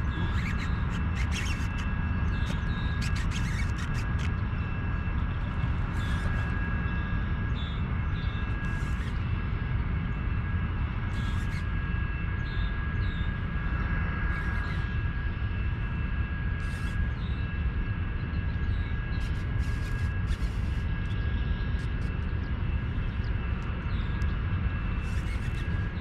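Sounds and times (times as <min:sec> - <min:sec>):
faint high whine: 0:00.0 - 0:26.0
low wind rumble on microphone: 0:00.0 - 0:26.0.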